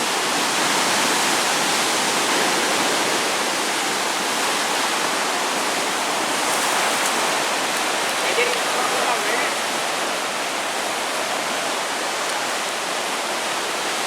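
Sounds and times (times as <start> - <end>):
turbulent river water rushing: 0.0 - 14.0.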